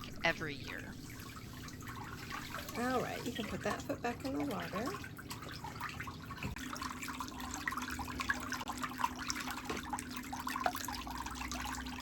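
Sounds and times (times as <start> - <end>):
water sloshing in foot bath: 0.0 - 12.0.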